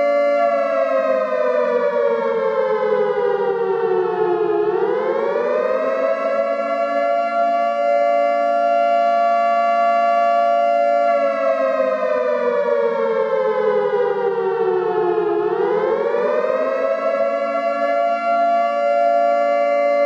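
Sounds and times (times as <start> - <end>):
air raid siren wailing: 0.0 - 20.0.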